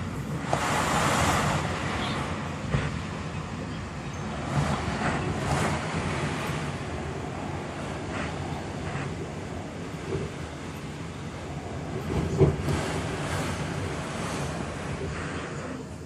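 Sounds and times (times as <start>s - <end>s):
strong wind gusting: 0.0s - 16.0s.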